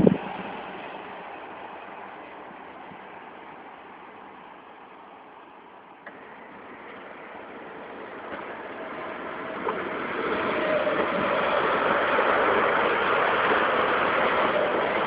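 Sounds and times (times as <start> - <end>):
train rolling on track: 0.0 - 15.0.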